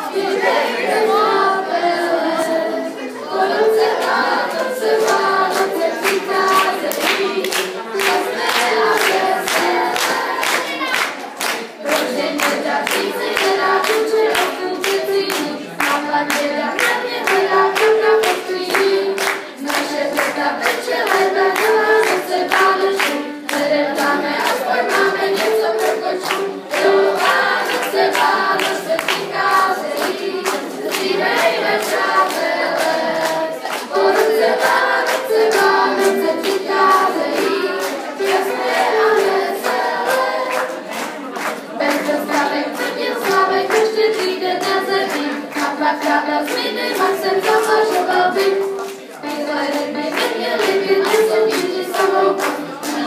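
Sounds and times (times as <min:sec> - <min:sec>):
children singing together: 0:00.0 - 0:53.0
hand clapping steady beat: 0:03.3 - 0:53.0.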